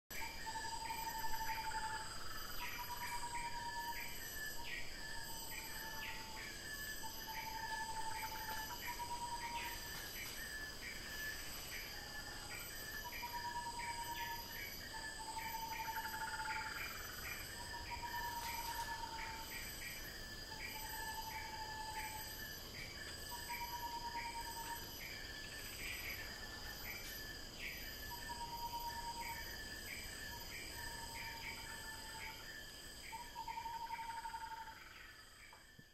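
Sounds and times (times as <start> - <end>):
insects chirring: 0.1 - 35.9.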